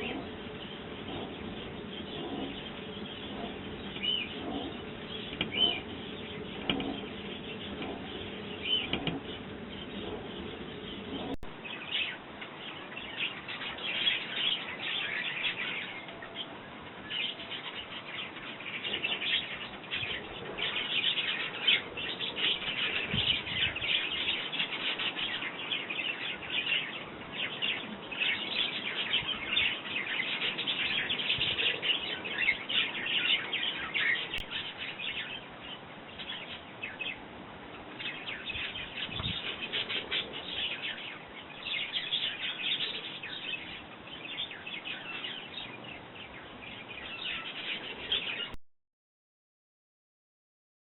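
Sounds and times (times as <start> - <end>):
sparrows chirping: 0.0 - 48.6.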